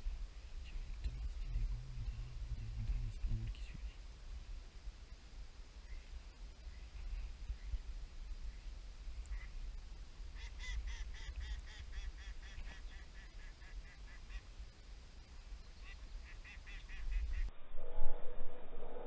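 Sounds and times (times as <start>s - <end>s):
wind rumble on microphone: 0.0s - 14.4s, 15.5s - 19.0s.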